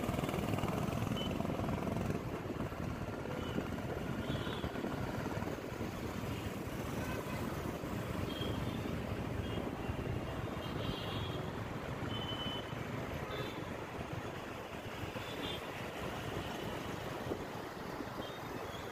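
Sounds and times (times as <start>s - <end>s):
passing traffic: 0.0s - 18.9s.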